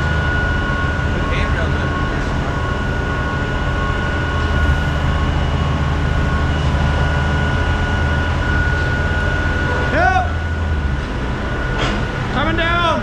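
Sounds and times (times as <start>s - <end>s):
diesel machinery low rumble: 0.0s - 13.0s
high-pitched whine: 0.0s - 13.0s.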